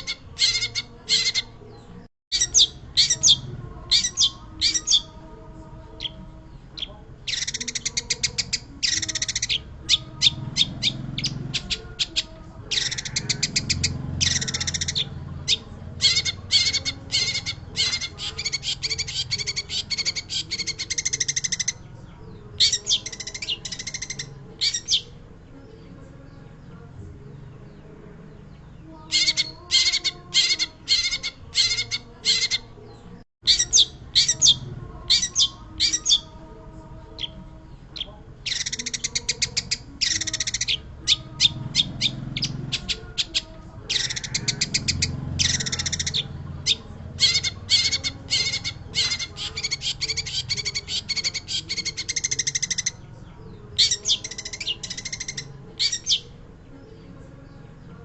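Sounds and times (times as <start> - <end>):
bird singing harsh chattering: 0.0 - 5.2, 5.8 - 58.0.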